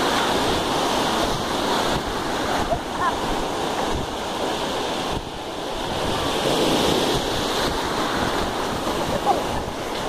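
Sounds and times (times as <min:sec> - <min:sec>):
ocean surf washing in: 0:00.0 - 0:10.0
wind buffeting microphone: 0:00.0 - 0:10.0.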